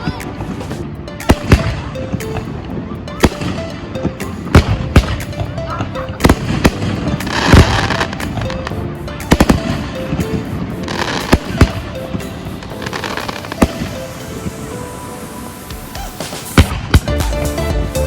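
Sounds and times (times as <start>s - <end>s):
fireworks crackling: 0.0s - 17.2s
music: 0.0s - 18.0s.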